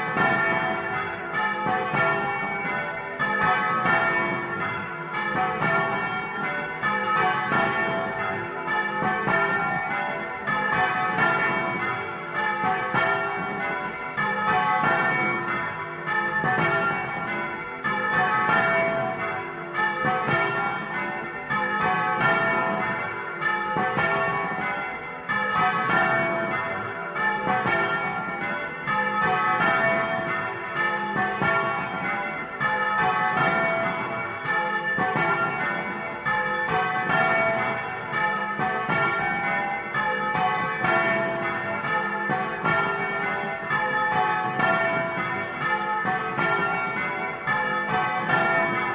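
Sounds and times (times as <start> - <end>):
church bells pealing: 0.0 - 48.9.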